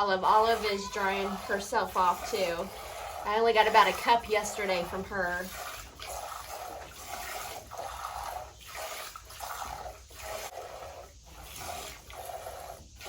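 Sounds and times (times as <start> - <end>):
milk squirting into a pail: 0.0 - 13.0.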